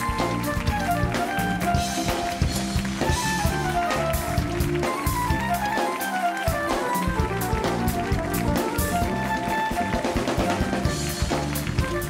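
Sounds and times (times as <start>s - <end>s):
band playing upbeat jazzy tune: 0.0s - 12.0s
bass: 0.0s - 12.0s
drum kit beat: 0.0s - 12.0s.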